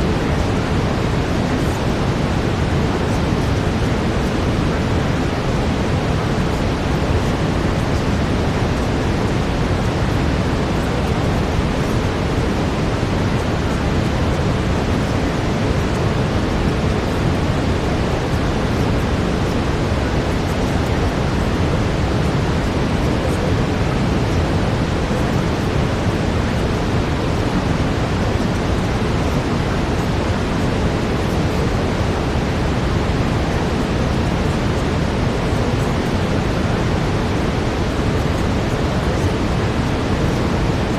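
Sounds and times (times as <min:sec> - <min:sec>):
brown noise hiss: 0:00.0 - 0:40.9.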